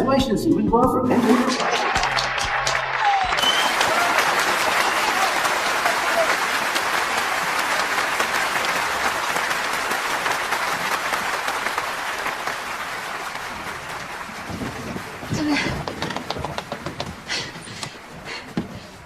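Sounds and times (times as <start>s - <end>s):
audience applauding: 1.2s - 19.0s.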